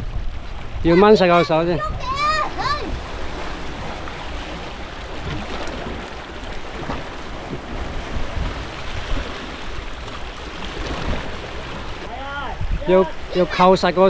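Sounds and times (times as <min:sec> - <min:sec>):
sea waves washing at shore: 0:00.0 - 0:14.0
wind rumbling on microphone: 0:00.0 - 0:14.0.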